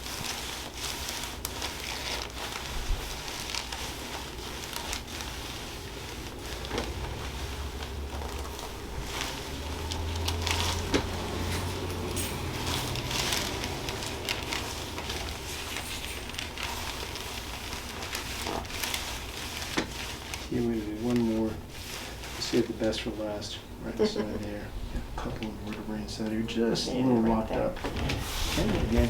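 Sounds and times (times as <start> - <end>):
rustling and crinkling handling: 0.0 - 29.0.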